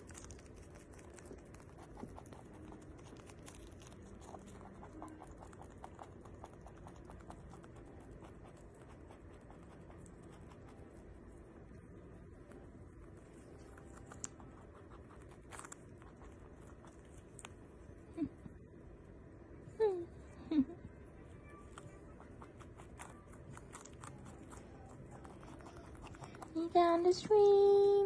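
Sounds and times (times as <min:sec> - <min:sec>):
rabbit chewing: 0:00.0 - 0:28.0.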